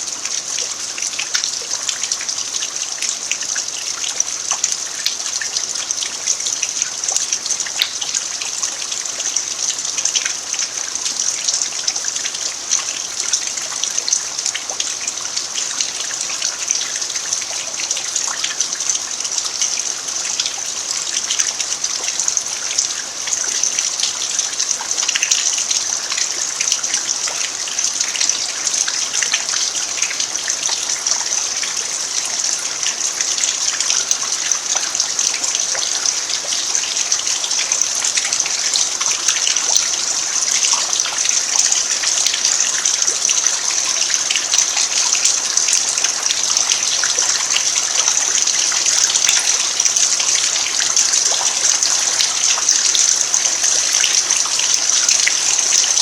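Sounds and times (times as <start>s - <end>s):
raindrops pattering: 0.0s - 56.0s
running water: 0.0s - 56.0s
steady rain hissing: 0.0s - 56.0s.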